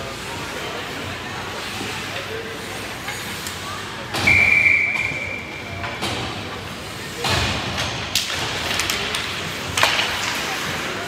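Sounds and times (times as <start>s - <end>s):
rush of hockey play: 0.0s - 4.3s, 5.0s - 11.0s.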